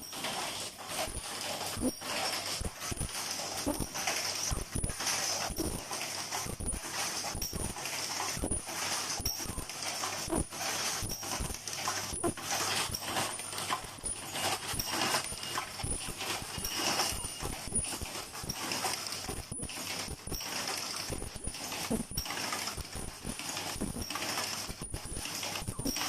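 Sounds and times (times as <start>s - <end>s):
machine clattering: 0.0s - 26.0s.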